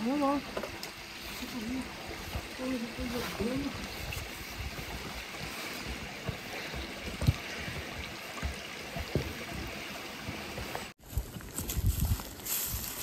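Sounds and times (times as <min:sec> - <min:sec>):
flowing water rushing: 0:00.0 - 0:11.0
footsteps on a trail: 0:00.7 - 0:13.0.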